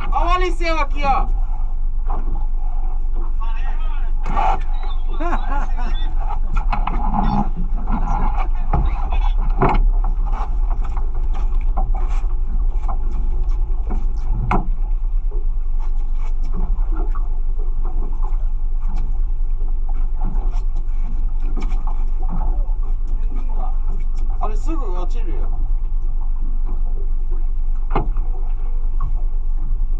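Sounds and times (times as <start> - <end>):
boat engine rumbling: 0.0 - 29.9.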